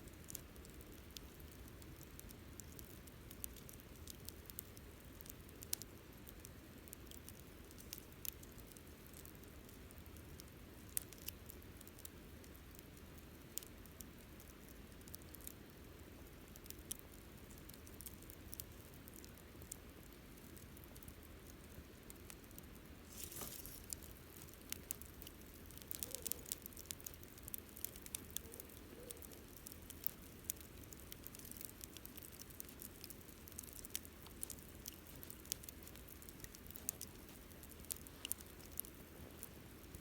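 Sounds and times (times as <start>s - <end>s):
campfire wood crackling: 0.0s - 40.0s
low hiss: 0.0s - 40.0s.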